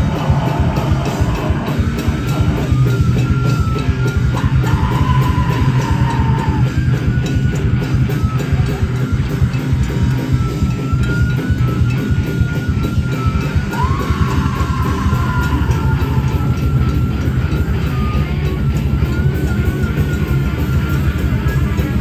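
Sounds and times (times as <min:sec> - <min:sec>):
heavy metal band playing: 0:00.0 - 0:22.0.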